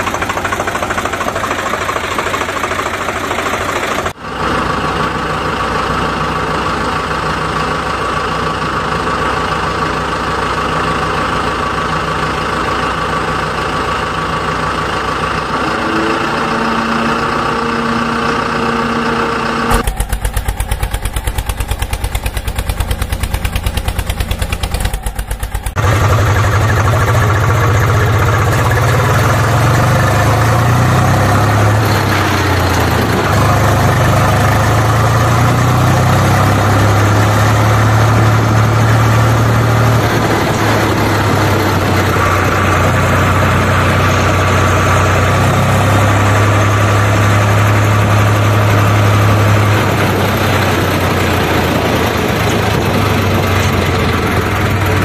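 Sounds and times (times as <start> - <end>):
engine drone with noise: 0.0 - 55.0
tractor engine chugging: 0.0 - 55.0.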